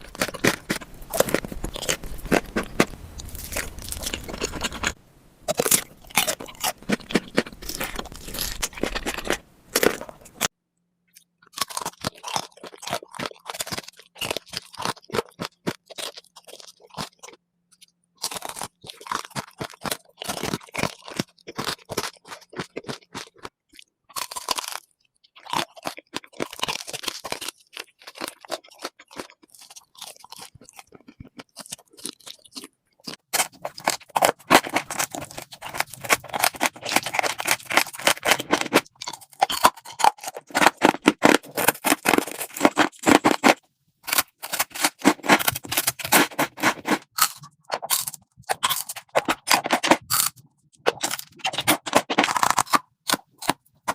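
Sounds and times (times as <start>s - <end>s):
crunchy food chewing: 0.0s - 10.5s, 11.1s - 53.9s.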